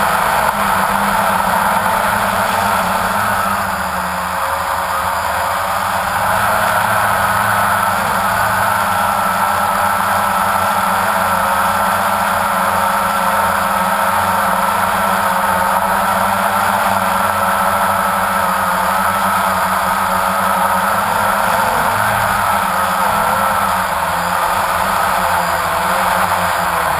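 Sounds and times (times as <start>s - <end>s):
drone motors whining: 0.0s - 26.9s.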